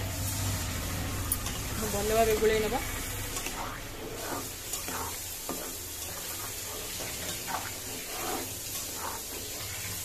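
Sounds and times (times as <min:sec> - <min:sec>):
spatula scraping pan: 0:01.4 - 0:10.0
thick gravy bubbling: 0:01.7 - 0:10.0.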